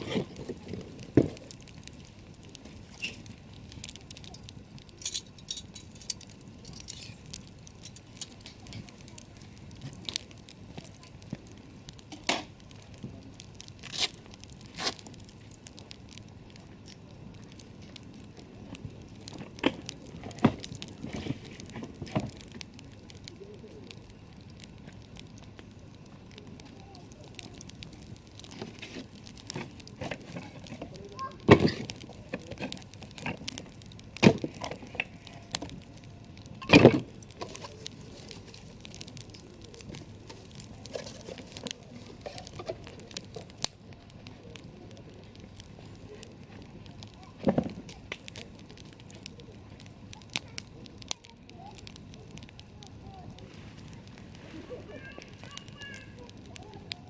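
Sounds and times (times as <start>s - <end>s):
campfire crackling: 0.0s - 57.0s
fire pops and snaps: 0.0s - 57.0s.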